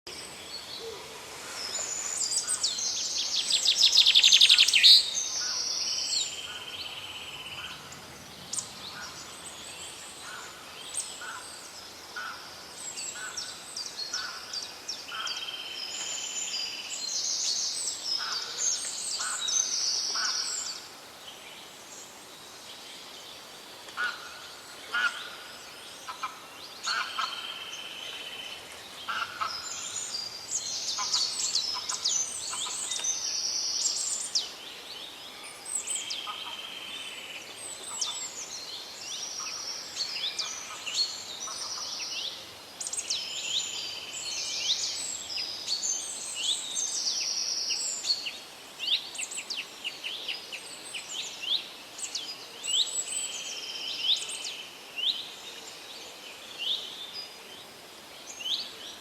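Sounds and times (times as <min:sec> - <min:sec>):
songbirds singing: 0:00.1 - 0:59.0.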